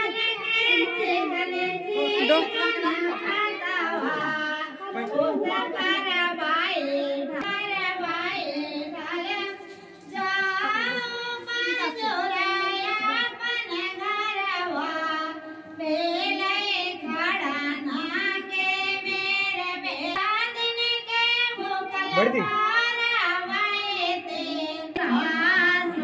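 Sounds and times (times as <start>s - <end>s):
high voice singing devotional song: 0.0s - 26.0s.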